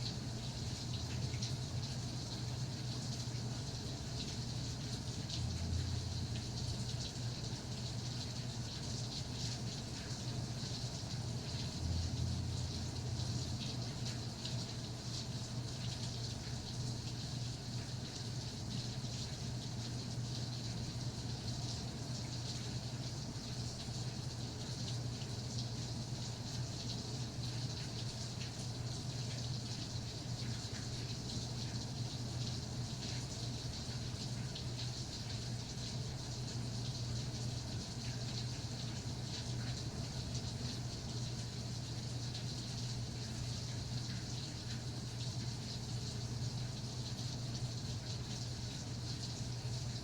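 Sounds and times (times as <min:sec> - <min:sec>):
rain pattering: 0:00.5 - 0:49.5.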